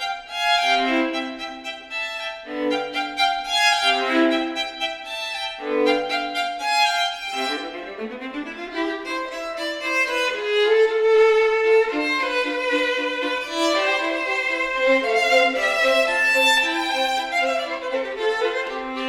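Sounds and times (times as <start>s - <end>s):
violin and viola duet: 0.0s - 19.0s.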